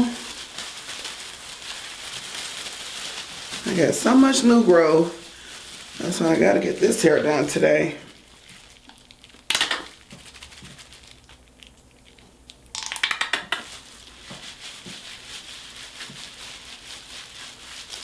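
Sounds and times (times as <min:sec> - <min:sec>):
soft crinkling rustle: 0:00.0 - 0:12.7, 0:13.5 - 0:18.0
hair dye crackling by hand: 0:00.0 - 0:18.0.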